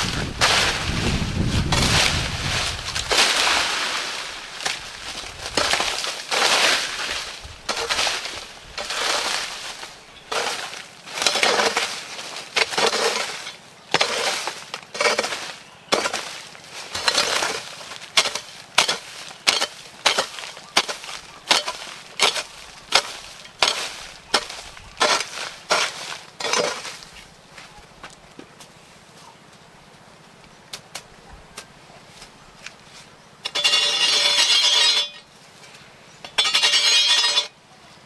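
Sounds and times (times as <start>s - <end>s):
hoe scraping dry dirt: 0.0s - 28.8s, 32.1s - 37.6s
leaves rustling: 0.0s - 37.6s.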